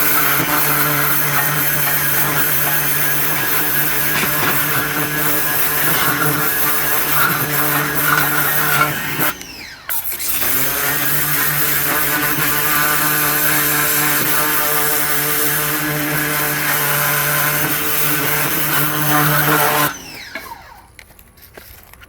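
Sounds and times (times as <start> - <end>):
pressure washer motor: 0.0 - 21.2.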